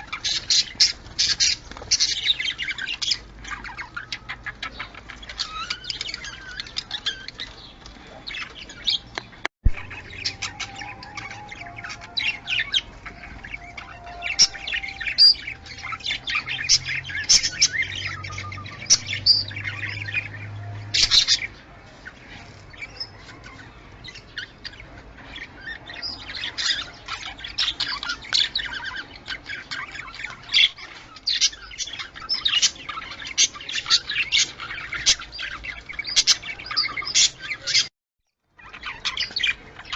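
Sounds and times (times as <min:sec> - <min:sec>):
budgerigars chattering: 0:00.0 - 0:37.9, 0:38.6 - 0:39.9.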